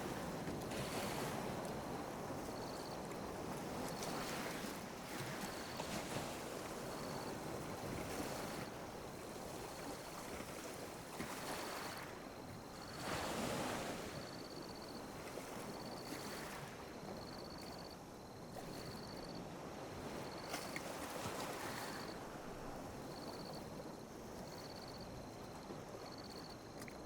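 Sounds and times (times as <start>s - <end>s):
small waves washing on beach: 0.0s - 27.0s.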